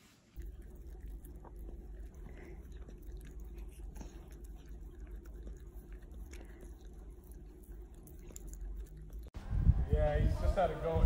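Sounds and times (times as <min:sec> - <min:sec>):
dog licking and mouthing: 0:00.4 - 0:09.4
low hum: 0:00.4 - 0:11.0.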